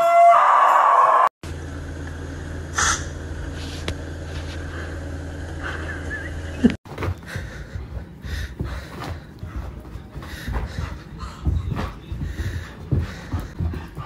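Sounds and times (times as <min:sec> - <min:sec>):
refrigerator humming: 0:01.4 - 0:13.9.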